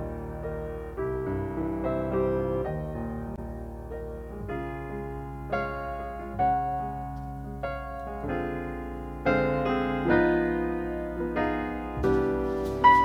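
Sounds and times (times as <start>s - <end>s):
jazz piano chords: 0.0s - 13.0s.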